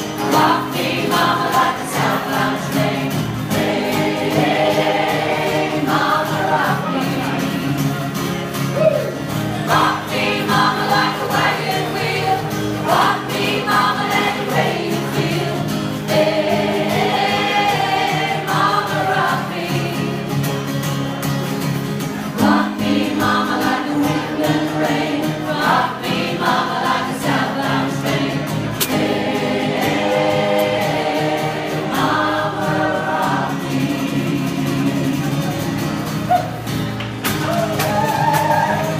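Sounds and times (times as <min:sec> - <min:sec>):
choir singing: 0:00.0 - 0:20.6, 0:22.2 - 0:36.2.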